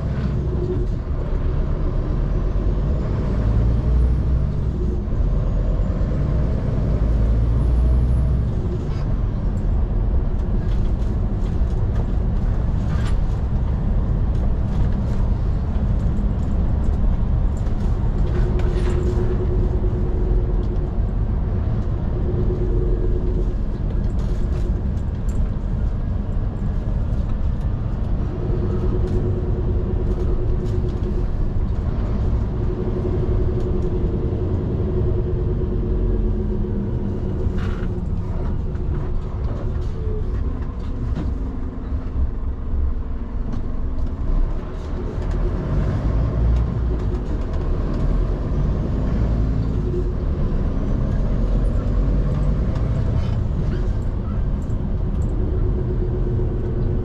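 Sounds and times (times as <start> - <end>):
heavy truck engine and road rumble: 0.0 - 57.0.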